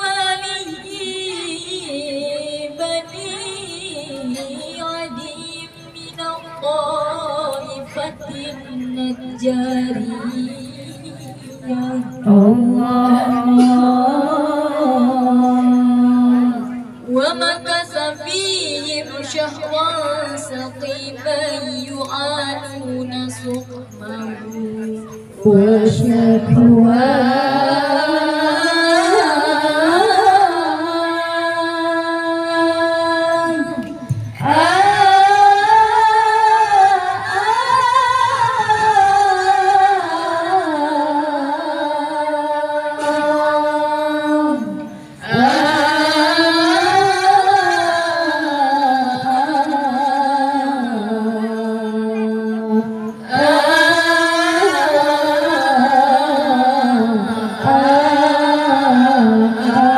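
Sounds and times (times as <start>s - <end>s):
women chanting over loudspeakers: 0.0s - 59.9s.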